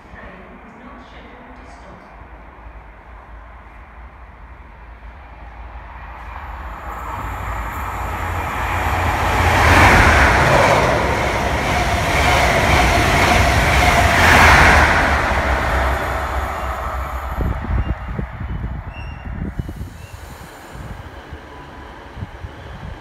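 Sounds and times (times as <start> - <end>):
diesel train passing at speed: 0.0 - 23.0.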